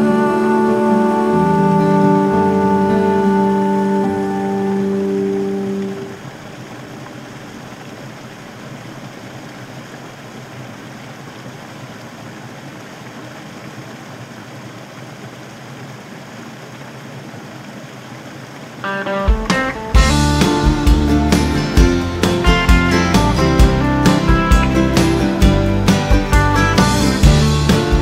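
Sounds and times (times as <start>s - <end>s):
small waterfall splashing: 0.0s - 28.0s.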